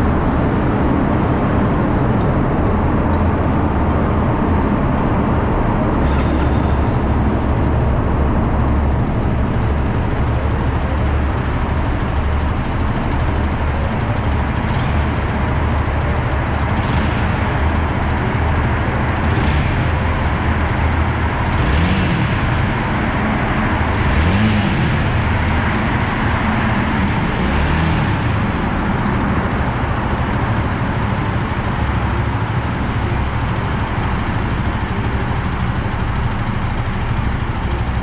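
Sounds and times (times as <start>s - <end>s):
motorcycle engine revving and idling: 0.0s - 38.0s.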